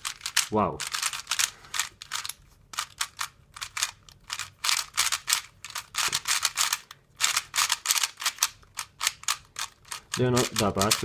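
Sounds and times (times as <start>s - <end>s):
speed cube plastic clicks and swishes: 0.0s - 11.0s.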